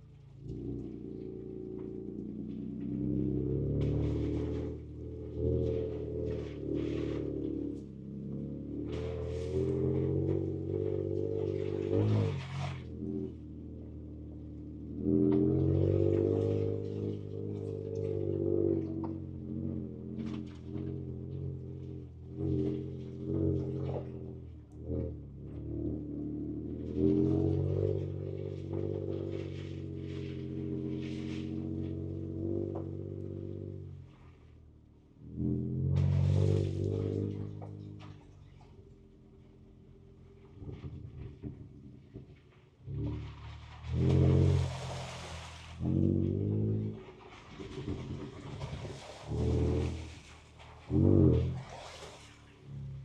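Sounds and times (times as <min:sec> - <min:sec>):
engine heard from inside cab: 0:00.0 - 0:53.0.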